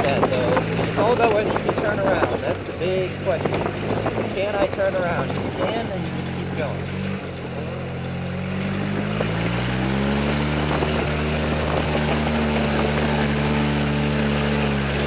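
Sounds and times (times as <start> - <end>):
golf cart engine: 0.0 - 15.0.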